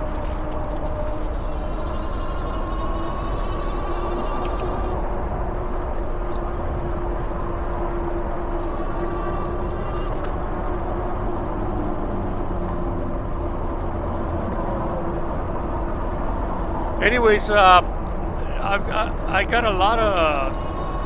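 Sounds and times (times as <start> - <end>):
wind and rolling noise: 0.0 - 21.0.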